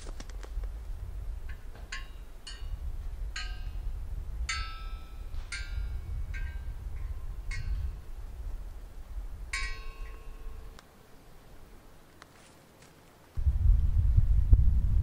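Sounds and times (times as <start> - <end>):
steady low rumble: 0.3 - 12.1, 13.4 - 15.0.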